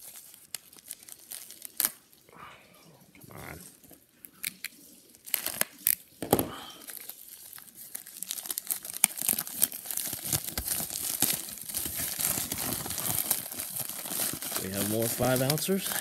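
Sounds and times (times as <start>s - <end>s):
plastic packaging tearing and crinkling: 0.0s - 2.3s, 3.5s - 16.0s.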